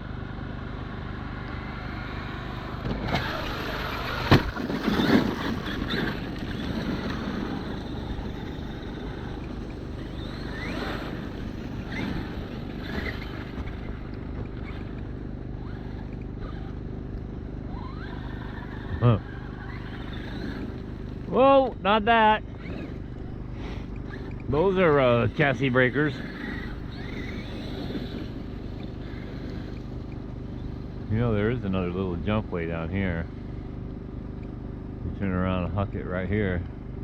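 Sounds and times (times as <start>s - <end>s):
electric motor winding up and down: 0.0s - 21.8s, 22.4s - 33.7s.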